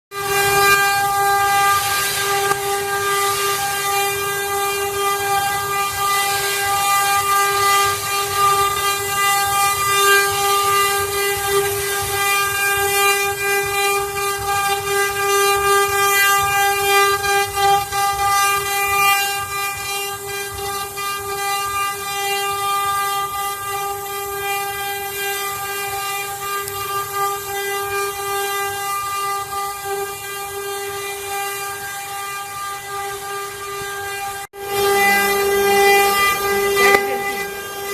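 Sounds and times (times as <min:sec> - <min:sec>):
bit cutting sheet material: 0:00.1 - 0:37.9
router spindle whining: 0:00.1 - 0:37.9.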